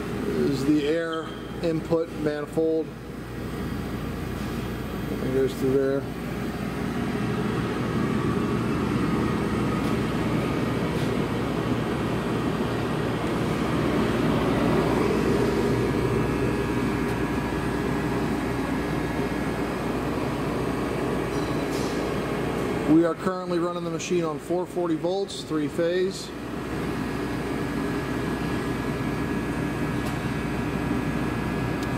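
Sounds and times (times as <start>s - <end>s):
cooling unit humming: 0.0s - 31.9s.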